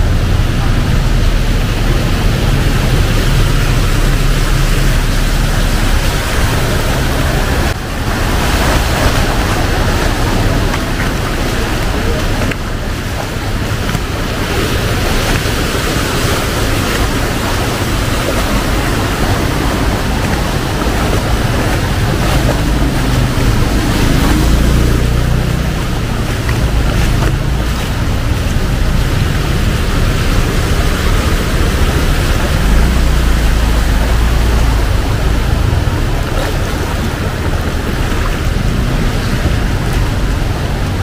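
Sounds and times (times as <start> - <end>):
heavy rain on street: 0.0 - 41.0
low traffic rumble: 0.0 - 41.0.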